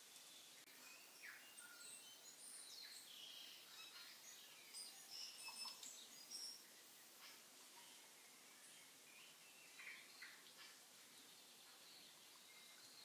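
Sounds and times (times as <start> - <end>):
faint bird chirps: 0.0 - 13.0
quiet steady hiss: 0.0 - 13.0.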